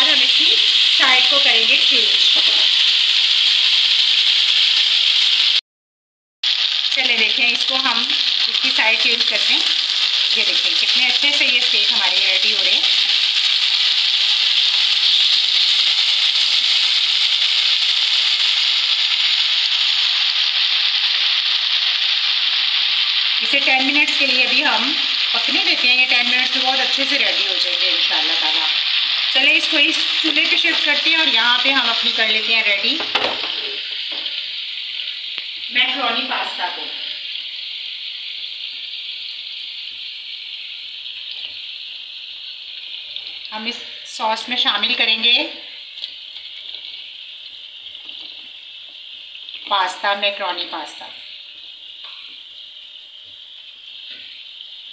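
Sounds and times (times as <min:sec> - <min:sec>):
meat sizzling in oil: 0:00.0 - 0:05.6, 0:06.4 - 0:54.9.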